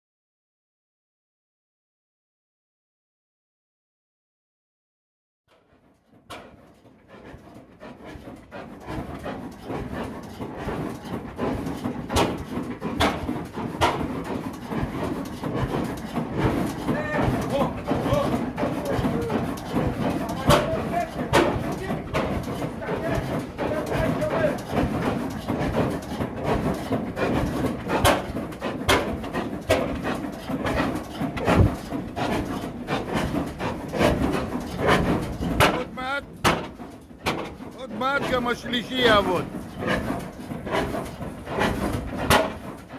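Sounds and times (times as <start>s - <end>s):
stationary engine chuffing: 5.5s - 42.9s
engine firing beats: 6.3s - 42.9s.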